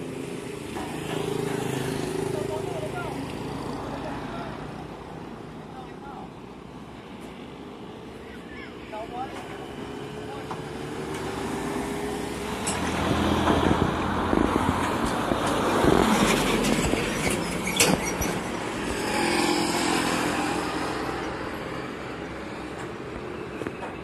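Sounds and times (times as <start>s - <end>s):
vehicles driving past: 0.0s - 24.0s.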